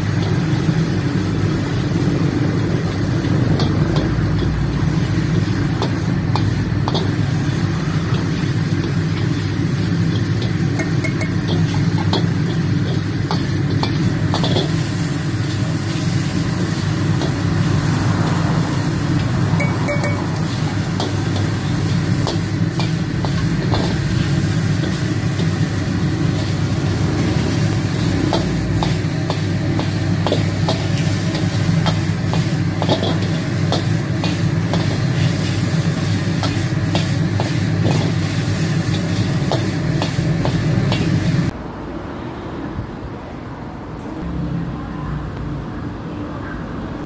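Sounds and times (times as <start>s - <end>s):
food sizzling in a wok: 0.0s - 41.6s
gas burner roaring: 0.0s - 42.0s.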